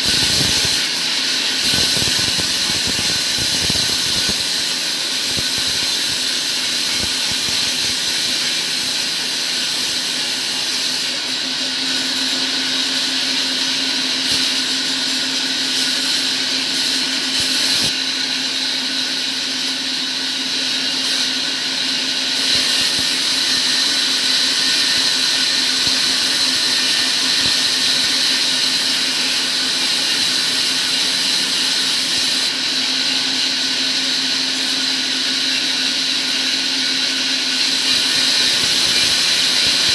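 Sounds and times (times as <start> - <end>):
electric power tool running: 0.0 - 39.9.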